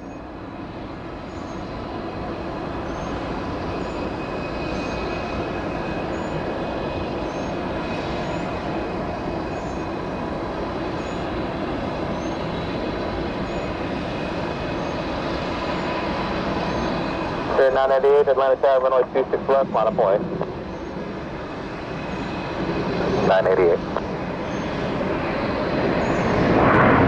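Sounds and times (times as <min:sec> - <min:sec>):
jet engines roaring and whining: 0:00.0 - 0:27.0.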